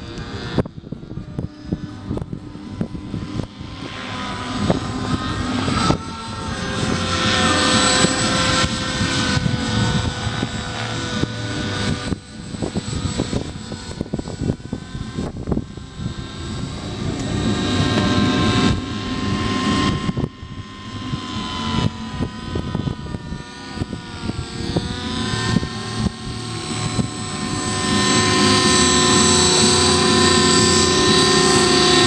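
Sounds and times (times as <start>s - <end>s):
toy helicopter rotor whine: 0.0s - 32.0s.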